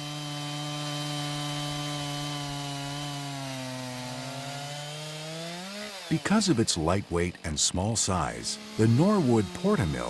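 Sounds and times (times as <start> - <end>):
chainsaw milling a log: 0.0 - 10.0.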